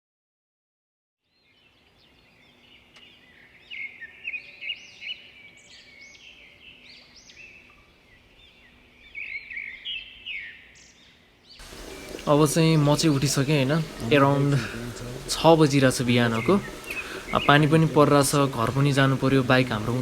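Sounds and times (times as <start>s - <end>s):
birds chirping and singing: 1.3s - 20.0s.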